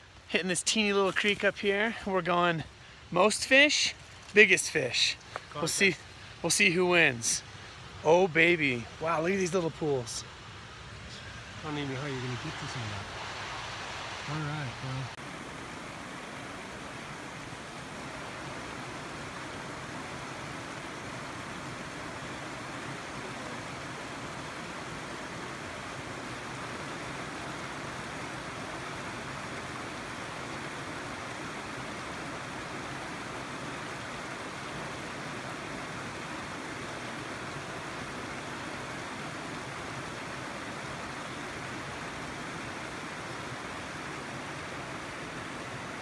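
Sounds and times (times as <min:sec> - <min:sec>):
creek running over rocks: 0:00.0 - 0:46.0.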